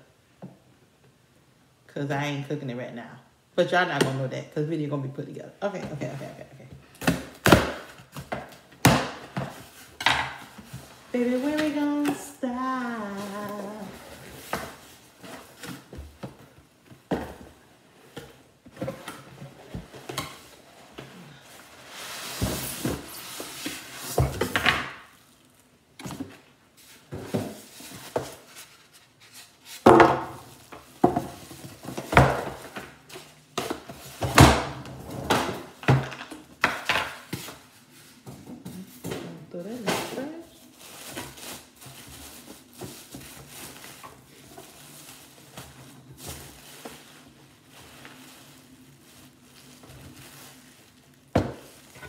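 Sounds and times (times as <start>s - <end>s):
plastic wrapping rustling: 5.9s - 52.0s.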